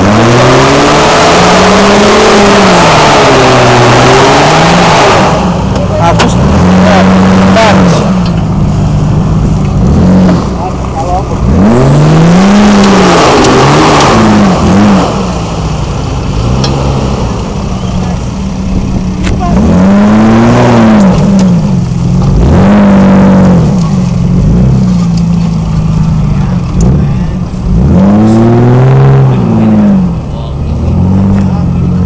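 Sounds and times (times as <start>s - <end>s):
engine revving hard: 0.0s - 8.3s, 9.8s - 18.3s, 19.3s - 25.3s, 26.7s - 32.0s.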